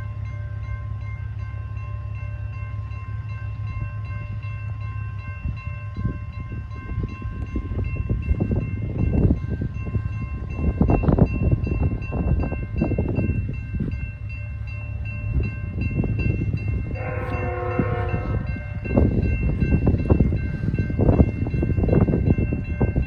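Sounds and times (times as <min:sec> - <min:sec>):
crossing warning bell ringing: 0:00.0 - 0:23.0
freight train rumble: 0:00.0 - 0:23.0.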